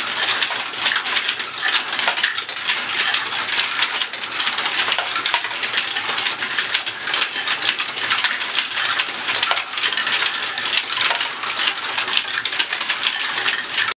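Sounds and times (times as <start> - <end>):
plastic balls clattering: 0.0 - 14.0.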